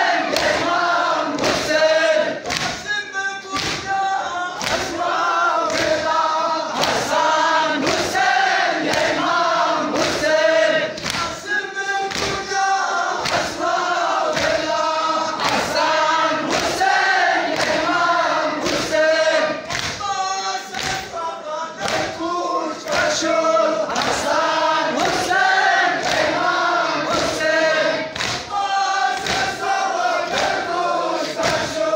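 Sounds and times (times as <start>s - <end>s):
men chanting in unison: 0.0s - 31.9s.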